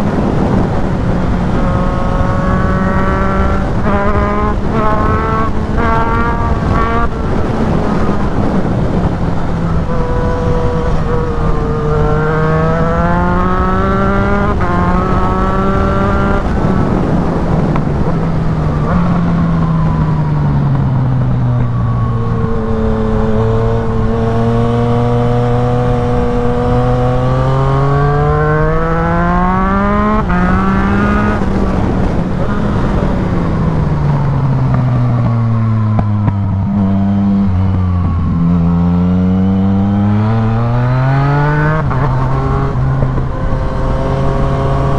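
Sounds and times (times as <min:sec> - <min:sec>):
motorcycle engine accelerating: 0:00.0 - 0:44.9
wind noise: 0:00.0 - 0:44.9.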